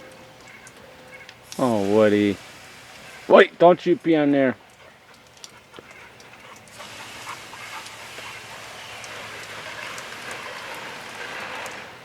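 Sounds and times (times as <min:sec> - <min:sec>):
water hissing from a hose: 0:01.3 - 0:12.0.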